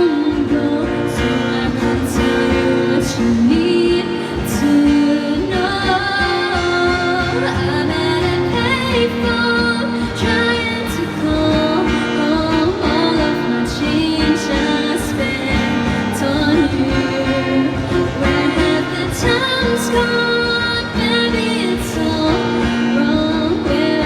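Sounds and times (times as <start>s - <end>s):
instrumental accompaniment: 0.0s - 24.0s
woman singing live pop: 0.0s - 24.0s.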